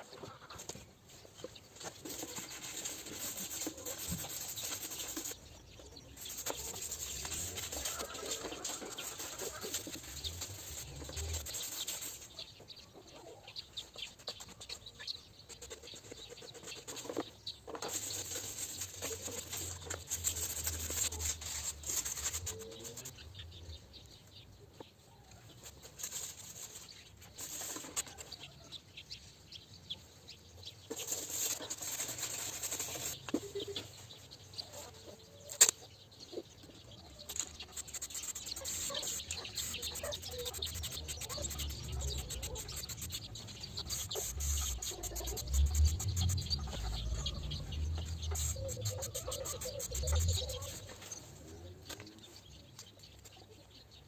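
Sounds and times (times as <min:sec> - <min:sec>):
rustling and scraping handling: 0:00.2 - 0:12.6, 0:13.9 - 0:23.3, 0:25.5 - 0:28.4, 0:30.8 - 0:35.7, 0:36.8 - 0:53.4.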